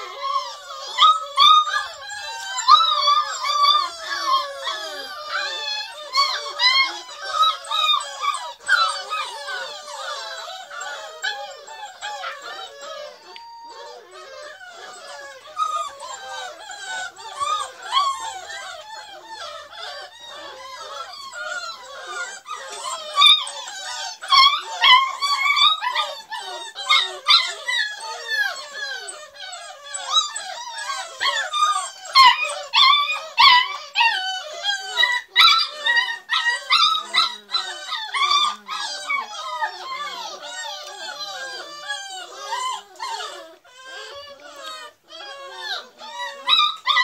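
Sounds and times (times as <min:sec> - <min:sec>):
puppies whining and yelping: 0:00.0 - 0:47.0.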